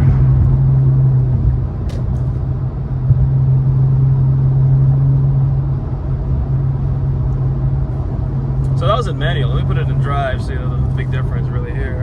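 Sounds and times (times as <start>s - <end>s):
car engine drone: 0.0s - 12.0s
road and tyre rumble: 0.0s - 12.0s.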